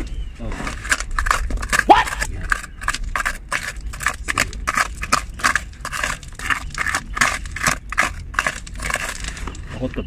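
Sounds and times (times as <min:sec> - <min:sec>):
hand tool scraping concrete: 0:00.4 - 0:10.0.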